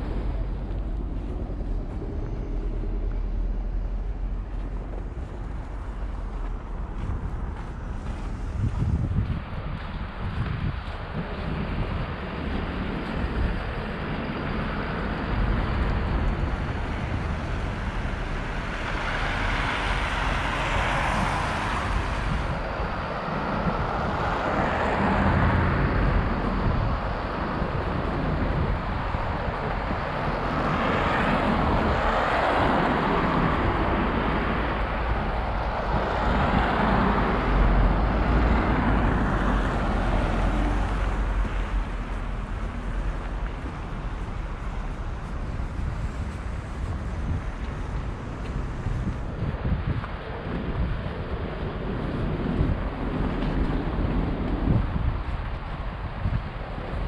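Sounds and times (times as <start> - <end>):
cars passing: 0.0 - 57.0
wind rumble on microphone: 0.0 - 57.0.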